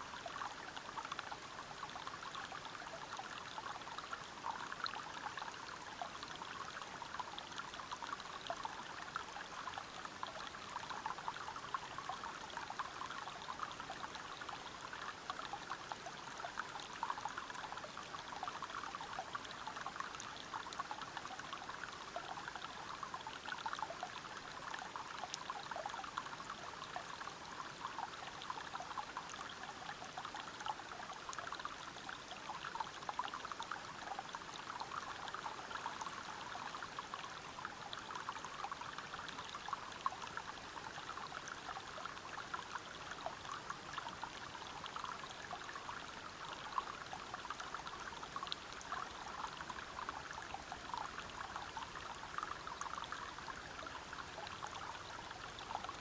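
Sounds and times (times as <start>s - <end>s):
river water running over rocks: 0.0s - 56.0s.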